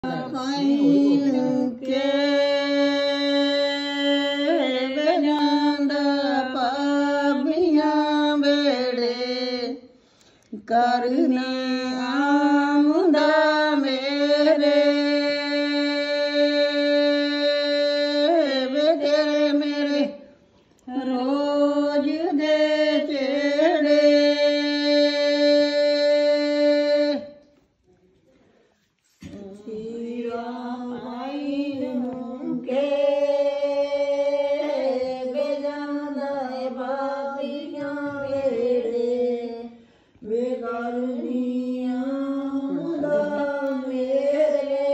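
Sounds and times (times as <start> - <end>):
woman singing unaccompanied: 0.0 - 9.9, 10.6 - 20.2, 20.8 - 27.4, 29.2 - 44.9.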